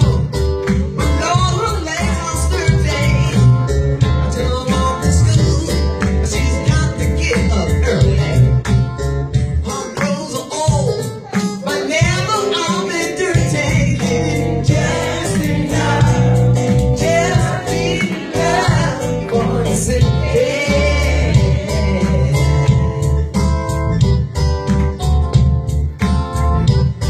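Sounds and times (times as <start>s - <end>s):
gospel soul singer with band: 0.0s - 24.0s.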